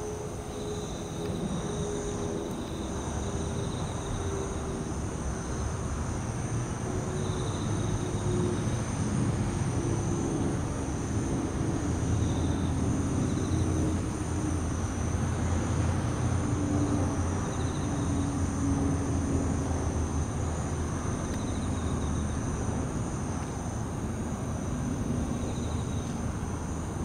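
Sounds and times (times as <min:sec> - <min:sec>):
crickets pulsed chirps: 0:00.0 - 0:27.0
high insect trill: 0:00.0 - 0:27.0
low rumble of traffic: 0:00.0 - 0:27.0.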